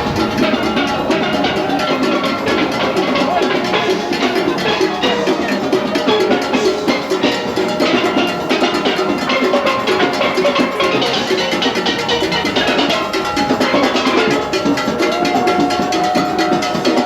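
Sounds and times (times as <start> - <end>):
drums and percussion: 0.0 - 17.0
steelband playing: 0.0 - 17.0.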